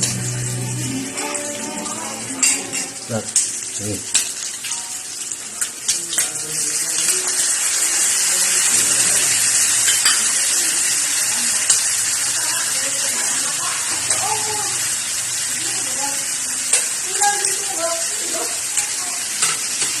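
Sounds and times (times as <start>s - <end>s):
meat sizzling in a hot pan: 0.0s - 20.0s.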